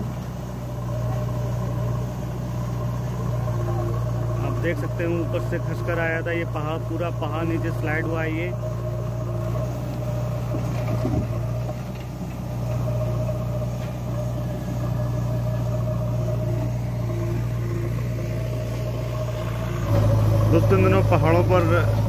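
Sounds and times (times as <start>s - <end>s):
backhoe diesel engine drone: 0.0s - 22.0s.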